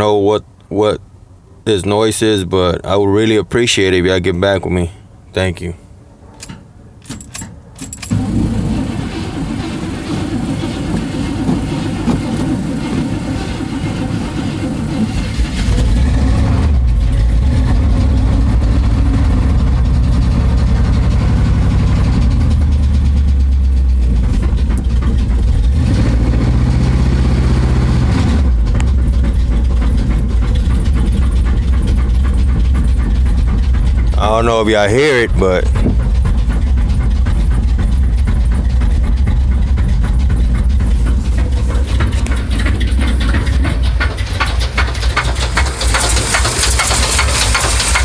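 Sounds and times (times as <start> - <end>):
car engine running with knocking: 6.4 - 48.0.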